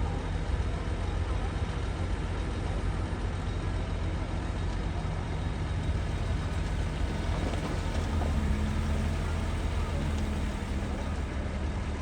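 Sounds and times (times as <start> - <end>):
diesel machinery engine drone: 0.1 - 12.0.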